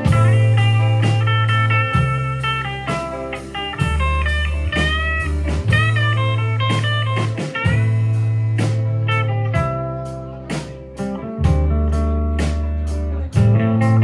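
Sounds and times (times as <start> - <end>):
blues-rock band playing: 0.0 - 14.0
lead guitar bending notes: 0.0 - 14.0.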